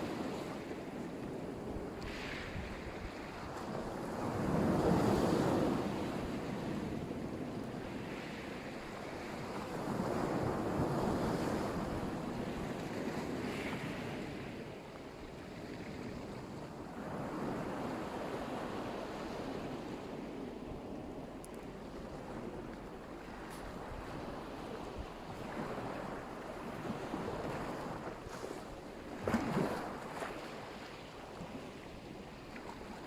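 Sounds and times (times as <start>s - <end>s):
waves washing onto shore: 0.0s - 33.0s.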